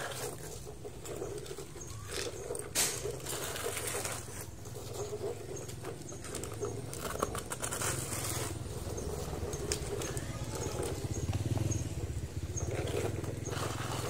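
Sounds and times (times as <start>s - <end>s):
dirt pouring and scraping: 0.0s - 14.0s.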